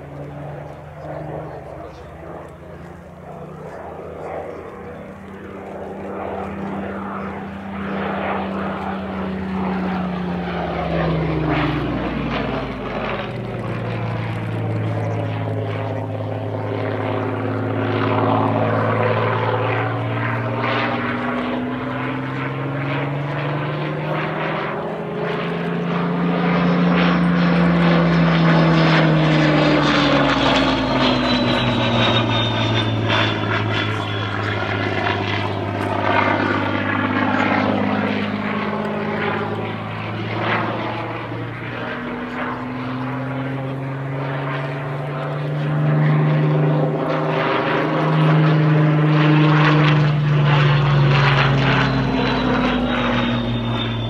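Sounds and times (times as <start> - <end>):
propeller plane engine overhead: 0.0 - 54.0.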